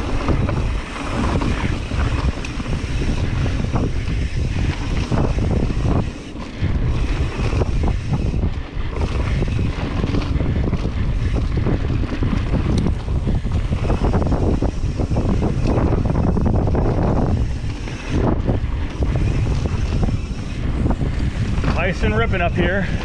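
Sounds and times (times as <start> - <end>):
bike knocks and rattles: 0.0 - 23.0
wind buffeting microphone: 0.0 - 23.0.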